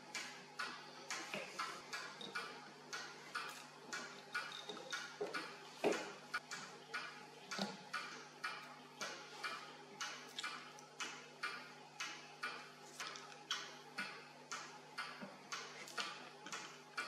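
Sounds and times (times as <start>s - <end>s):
clock-like ticking: 0.0s - 17.0s
faint steady hum: 0.0s - 17.0s.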